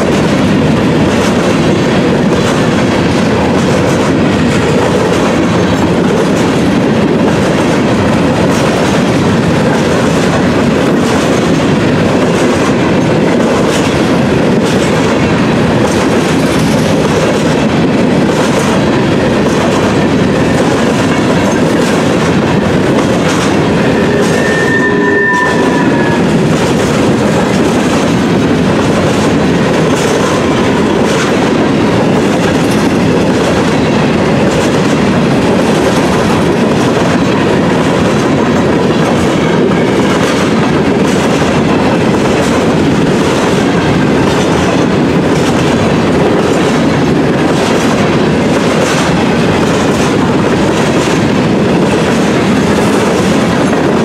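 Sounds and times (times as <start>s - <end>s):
clickety-clack over rail joints: 0.0s - 54.0s
steel wheels rumbling on rail: 0.0s - 54.0s.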